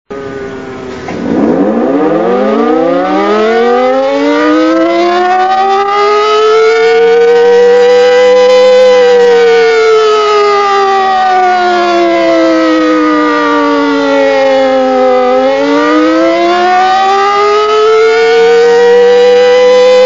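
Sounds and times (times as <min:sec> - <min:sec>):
siren winding up: 0:00.1 - 0:20.0.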